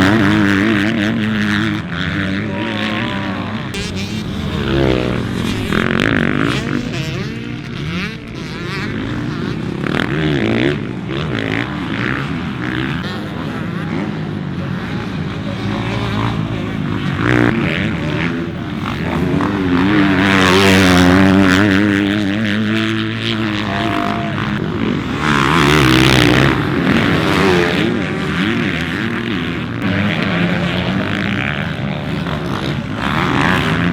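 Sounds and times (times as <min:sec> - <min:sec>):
motocross bikes revving: 0:00.0 - 0:33.9.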